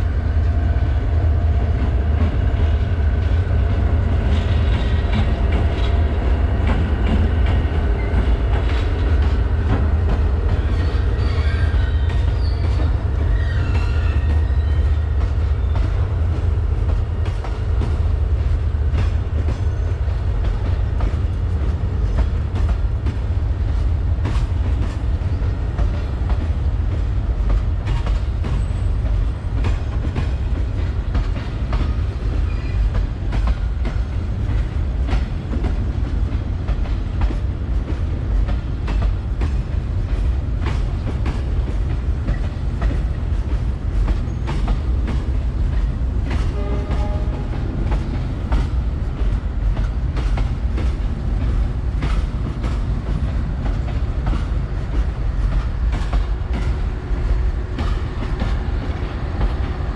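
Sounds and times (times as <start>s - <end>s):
train coaches rumbling past: 0.0s - 59.9s.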